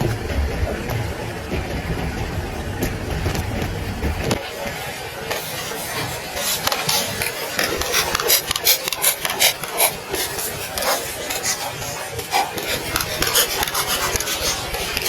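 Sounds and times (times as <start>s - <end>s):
rapid scratching and rubbing: 0.0s - 15.0s.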